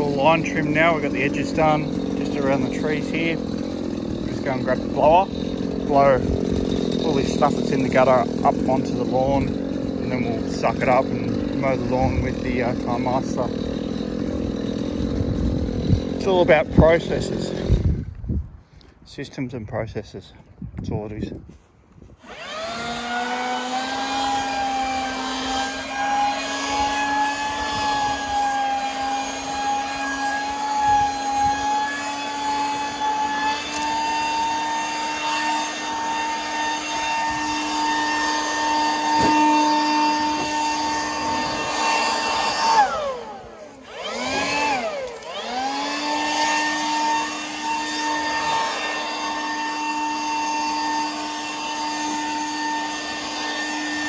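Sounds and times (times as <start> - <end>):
leaf blower whining: 0.0 - 19.5, 20.9 - 54.0.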